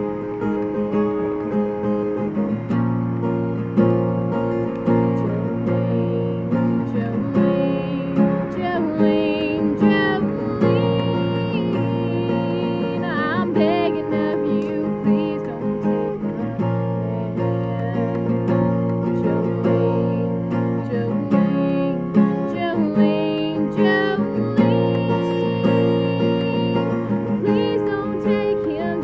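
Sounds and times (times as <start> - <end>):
acoustic guitar chords: 0.0 - 29.0
person singing: 4.8 - 29.0.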